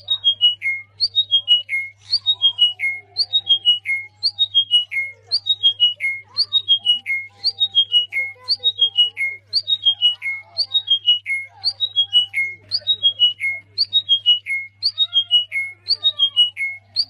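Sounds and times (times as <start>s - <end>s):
bird call with falling notes: 0.0s - 17.0s
fainter bird calls: 0.0s - 17.0s.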